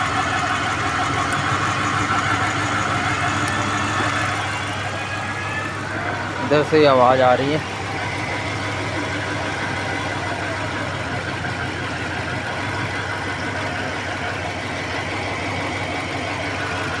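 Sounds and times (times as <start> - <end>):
abnormal engine noise: 0.0 - 17.0
car engine idling with misfire: 0.0 - 17.0.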